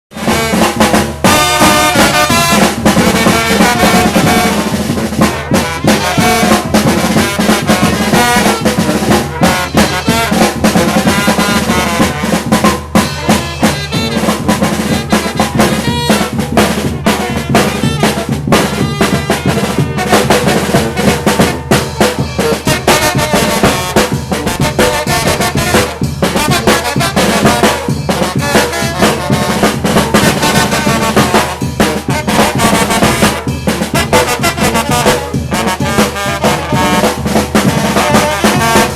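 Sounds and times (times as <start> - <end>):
snare and bass drum: 0.1 - 38.9
trumpets and trombones: 0.1 - 38.9.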